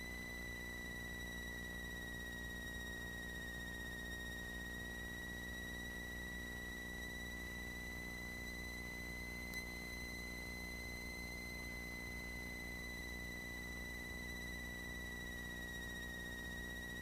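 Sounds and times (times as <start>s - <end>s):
high electrical whine: 0.0s - 17.0s.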